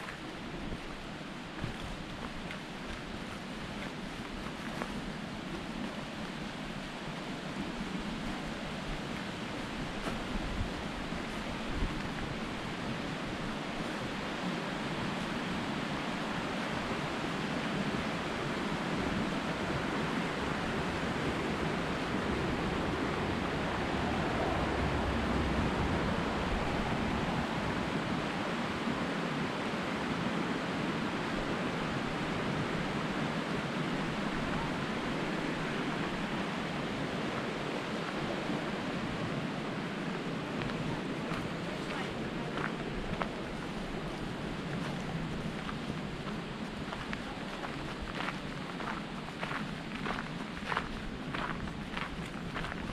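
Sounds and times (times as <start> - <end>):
stream rushing: 0.0 - 52.9.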